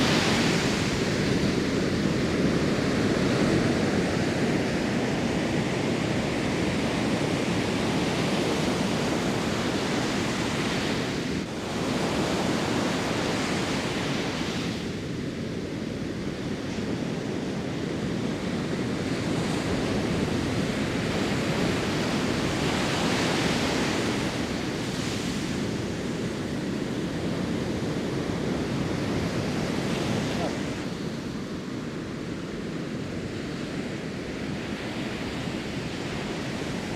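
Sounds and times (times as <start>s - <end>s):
ocean surf washing on beach: 0.0s - 36.9s.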